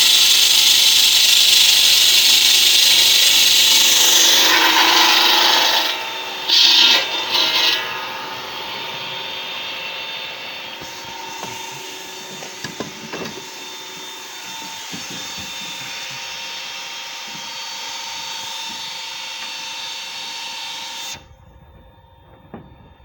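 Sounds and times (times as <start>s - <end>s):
stone saw grinding: 0.0s - 19.1s.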